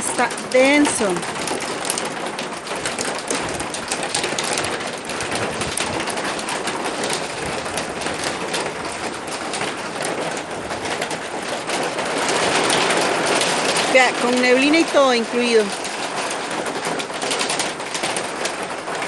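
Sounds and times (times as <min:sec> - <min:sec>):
heavy rain on a metal roof: 0:00.0 - 0:19.0.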